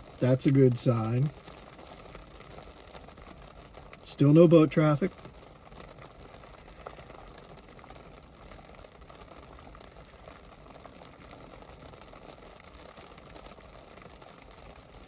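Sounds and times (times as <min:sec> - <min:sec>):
rain on hard surfaces: 0:00.0 - 0:15.0.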